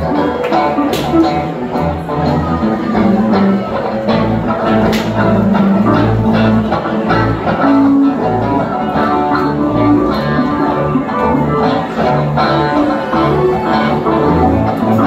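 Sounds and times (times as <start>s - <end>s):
bass line: 0.0s - 15.0s
drum kit: 0.0s - 15.0s
electric guitars: 0.0s - 15.0s.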